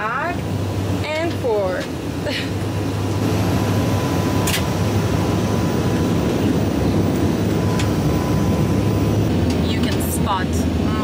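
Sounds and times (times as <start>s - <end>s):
jet cabin airflow rush: 0.0s - 11.0s
low engine hum: 0.0s - 11.0s.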